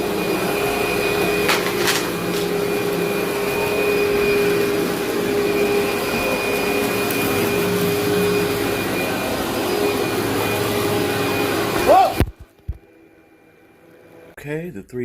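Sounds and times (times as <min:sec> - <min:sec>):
vacuum cleaner running: 0:00.0 - 0:14.3.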